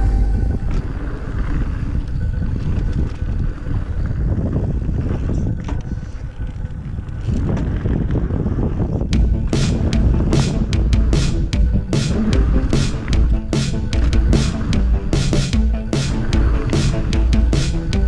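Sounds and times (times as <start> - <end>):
bike rumbling and rattling: 0.0 - 18.0
wind buffeting microphone: 0.0 - 18.0.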